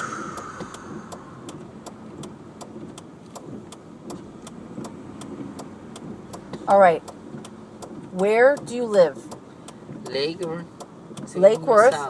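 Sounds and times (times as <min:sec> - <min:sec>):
car running low rumble: 0:00.0 - 0:12.0
even ticking clicks: 0:00.3 - 0:11.7.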